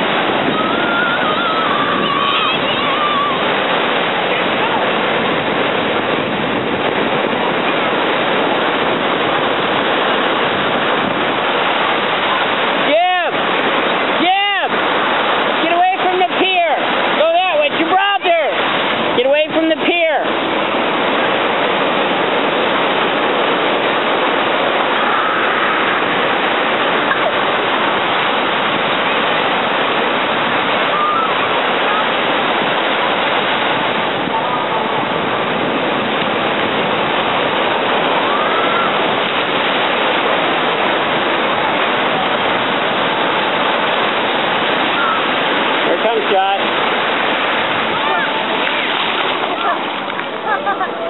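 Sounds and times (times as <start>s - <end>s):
ocean surf breaking: 0.0s - 51.0s.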